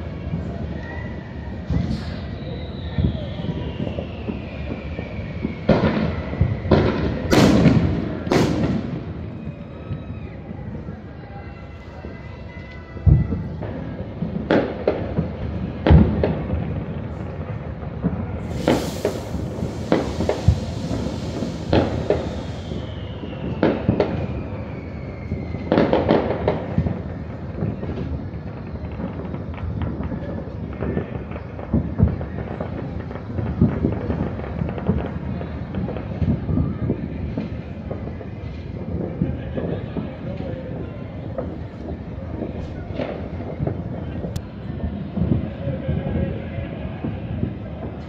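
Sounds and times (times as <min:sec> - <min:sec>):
distant explosions rumbling: 0:00.0 - 0:48.0
distant fireworks booming: 0:00.0 - 0:48.0.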